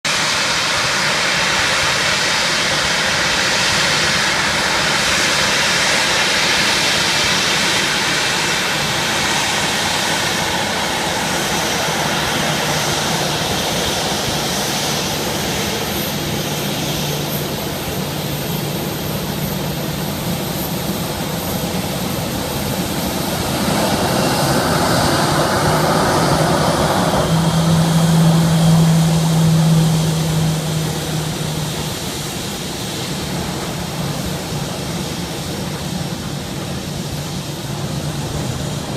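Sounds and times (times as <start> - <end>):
jet engine roar with whine: 0.0 - 38.9.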